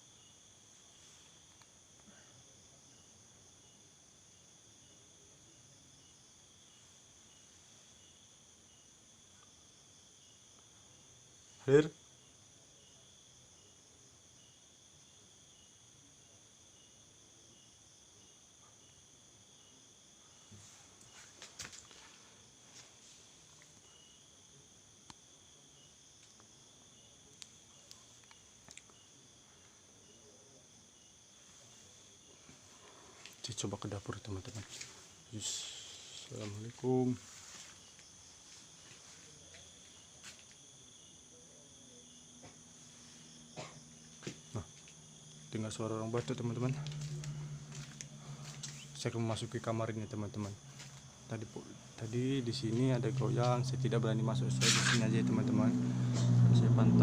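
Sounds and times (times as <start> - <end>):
crickets chirring: 0.0 - 57.0
night insects chorus: 0.0 - 57.0.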